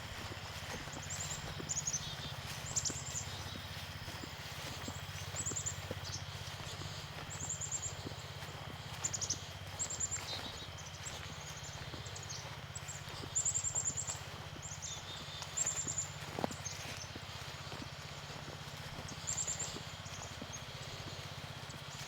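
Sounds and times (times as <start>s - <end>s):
birds chirping high trills: 0.0s - 22.0s
steady low hum: 0.0s - 22.0s.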